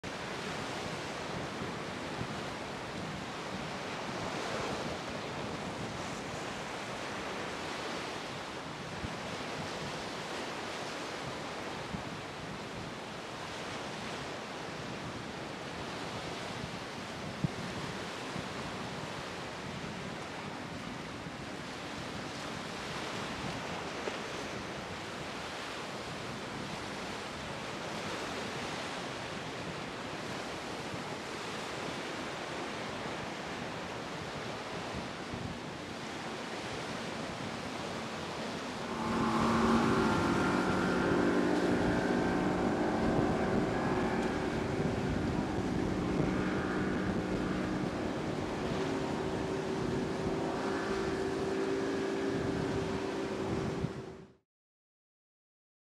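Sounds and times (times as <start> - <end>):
surf: 0.0 - 54.1
wind on microphone: 0.0 - 54.4
outboard engine droning: 0.1 - 54.4.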